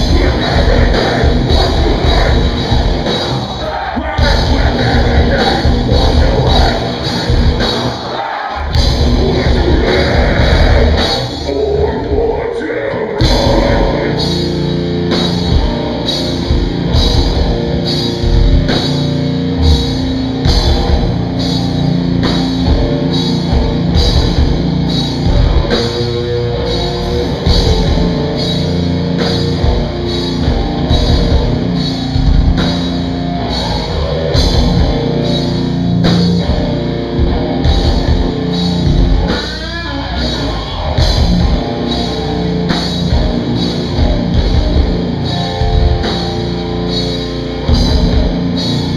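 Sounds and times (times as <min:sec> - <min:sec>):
drum kit with cymbal hits: 0:00.0 - 0:12.4, 0:13.2 - 0:48.9
bass guitar: 0:00.0 - 0:48.9
distorted electric guitars: 0:00.0 - 0:48.9.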